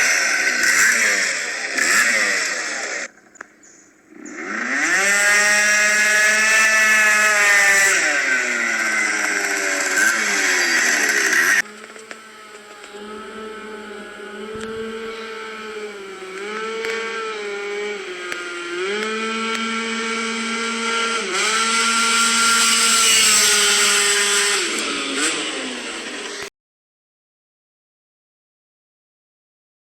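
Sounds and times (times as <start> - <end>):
scooter engine revving high: 0.0 - 3.2, 4.0 - 26.5.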